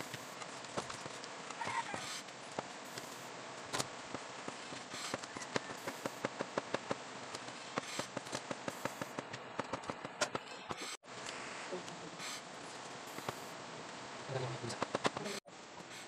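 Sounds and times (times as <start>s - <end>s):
steady hiss: 0.0s - 9.2s, 10.6s - 16.0s.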